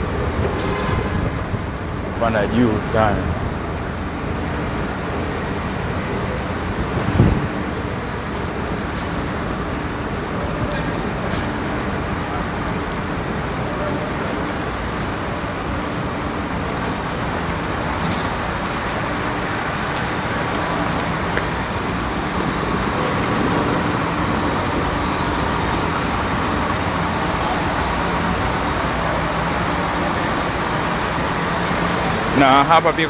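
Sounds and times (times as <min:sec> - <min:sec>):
faint low engine hum: 0:00.0 - 0:33.0
traffic noise: 0:00.0 - 0:33.0.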